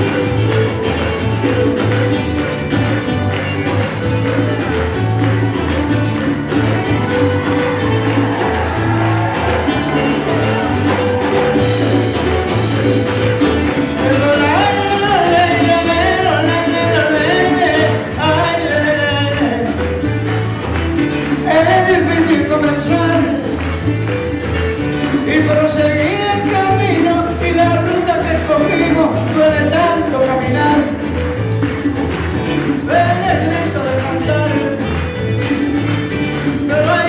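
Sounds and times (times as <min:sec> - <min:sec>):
person singing: 0:00.0 - 0:20.0, 0:21.2 - 0:23.6, 0:25.1 - 0:31.3, 0:32.6 - 0:35.0
latin band playing: 0:00.0 - 0:37.0.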